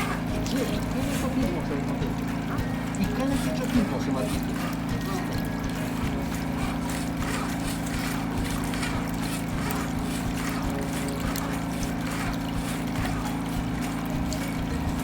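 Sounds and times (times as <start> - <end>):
drain-jetting machine humming: 0.0 - 15.0.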